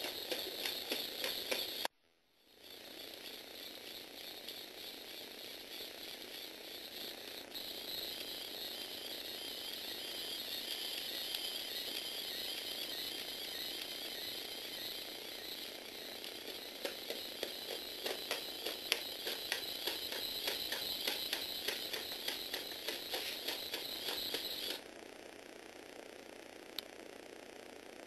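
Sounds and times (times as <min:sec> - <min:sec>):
toy motor and gears whirring: 0:00.0 - 0:24.9.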